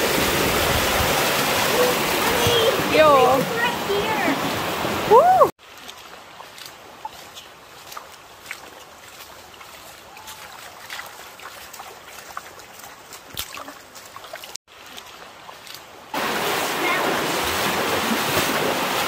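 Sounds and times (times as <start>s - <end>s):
river water running over stones: 0.0s - 19.0s
splashes from people wading: 0.0s - 19.0s.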